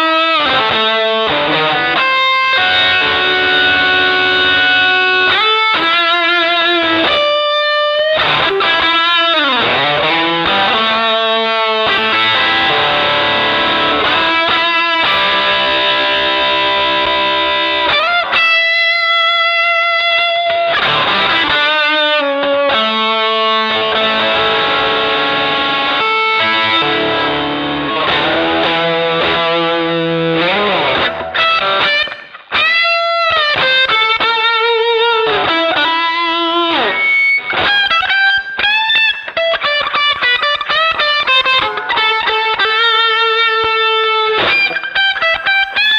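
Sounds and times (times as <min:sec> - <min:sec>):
electric guitar notes with vibrato: 0:00.0 - 0:45.9.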